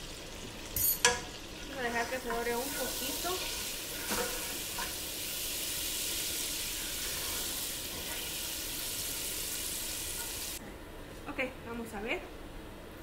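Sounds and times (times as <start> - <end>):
garlic sizzling in butter: 0.0 - 10.6.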